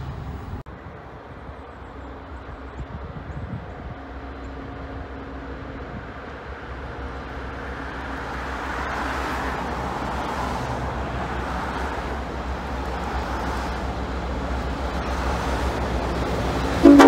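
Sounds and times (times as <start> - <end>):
locomotive engine hum: 0.0 - 17.0
rushing wheel noise: 0.0 - 17.0.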